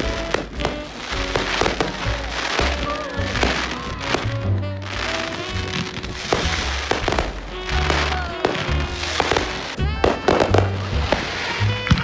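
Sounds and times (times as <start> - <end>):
background music: 0.0 - 12.0
fireworks bangs and crackles: 0.0 - 12.0.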